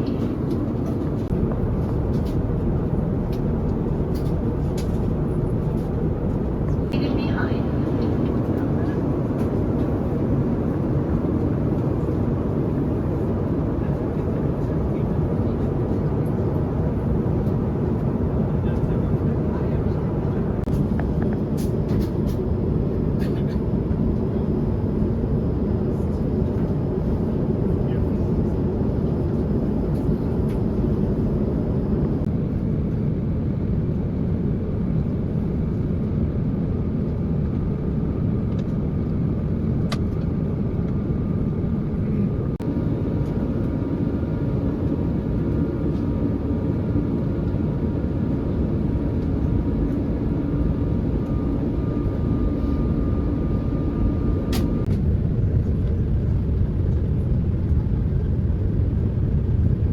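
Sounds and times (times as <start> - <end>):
airliner cabin engine roar: 0.0 - 59.9.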